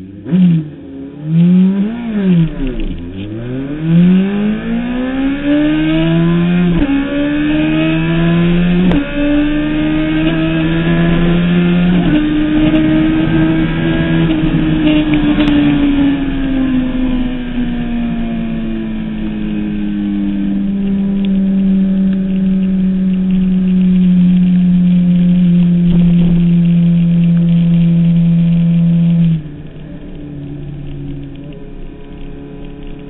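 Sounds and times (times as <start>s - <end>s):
motorcycle engine running: 5.6s - 33.0s.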